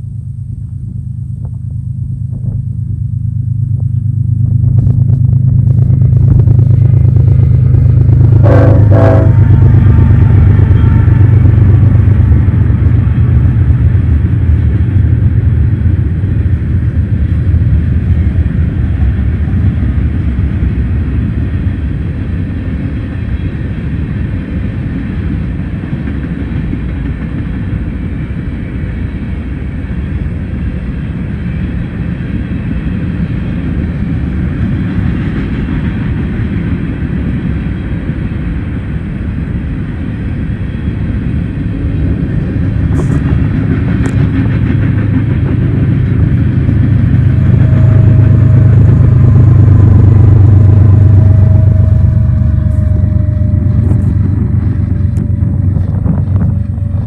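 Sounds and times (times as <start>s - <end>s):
diesel locomotive rumble: 0.0s - 57.0s
train wheels rattling on rails: 1.4s - 57.0s.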